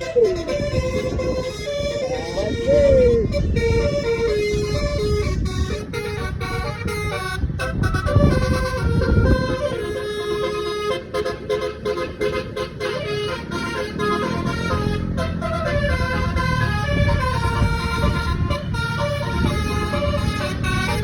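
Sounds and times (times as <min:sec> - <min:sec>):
low engine rumble: 0:00.0 - 0:21.0
multi-note bus horn melody: 0:00.0 - 0:21.0.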